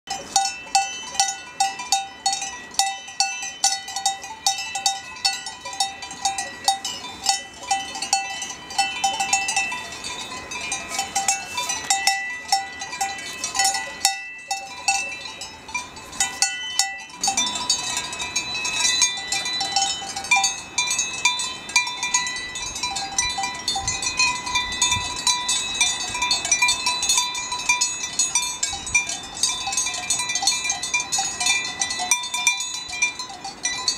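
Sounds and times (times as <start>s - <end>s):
cowbells clanking: 0.1s - 33.9s.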